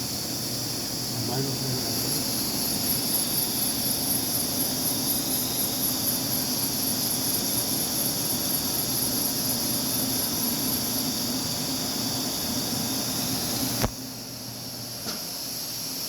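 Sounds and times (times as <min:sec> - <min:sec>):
machinery high hiss and whine: 0:00.0 - 0:16.0.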